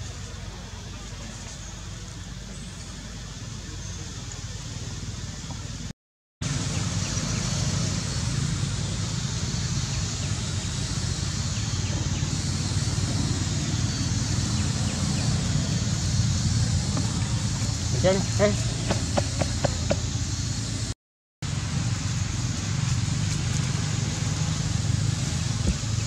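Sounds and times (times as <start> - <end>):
even hiss: 0.0 - 26.0.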